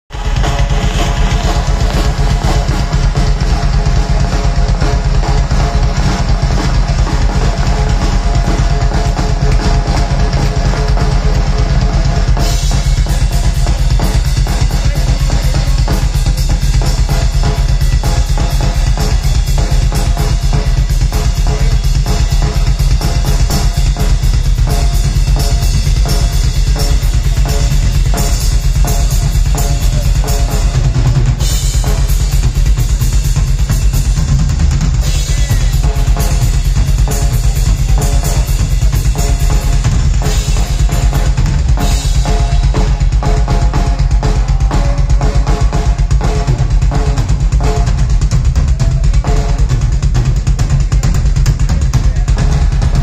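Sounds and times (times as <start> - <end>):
cymbals: 0.1 - 53.0
rapid bass drum strokes: 0.1 - 53.0.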